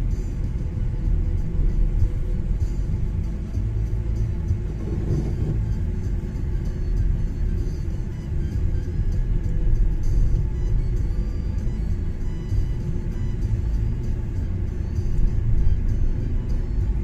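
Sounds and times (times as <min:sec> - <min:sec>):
car engine rumble: 0:00.0 - 0:17.0
tyres on snowy road: 0:00.0 - 0:17.0.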